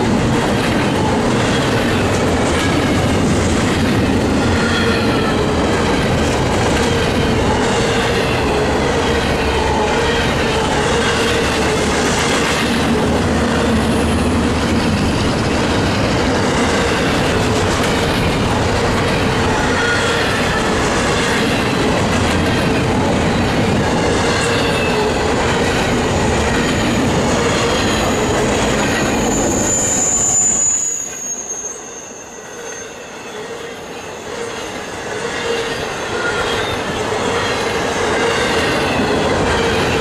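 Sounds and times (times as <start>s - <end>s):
freight train rumbling past: 0.0s - 40.0s
wheels squealing on rail: 0.0s - 40.0s.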